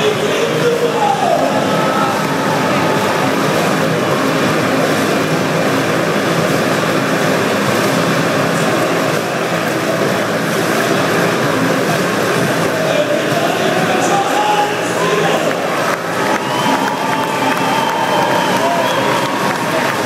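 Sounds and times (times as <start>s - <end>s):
motorcycle engines running hard: 0.0s - 20.0s.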